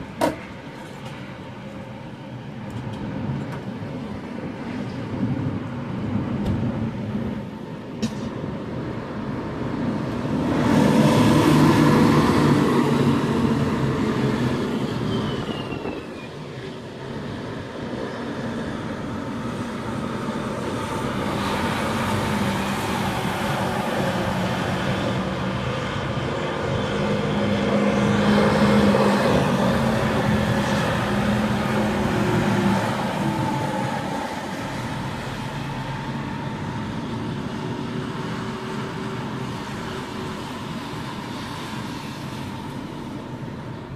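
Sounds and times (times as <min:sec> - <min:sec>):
cars passing on wet road: 0:00.0 - 0:43.9
storm wind rushing: 0:02.3 - 0:43.9.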